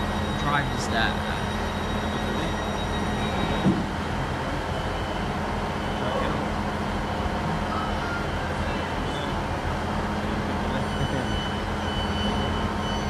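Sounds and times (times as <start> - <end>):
diesel train idling hum: 0.0 - 13.0.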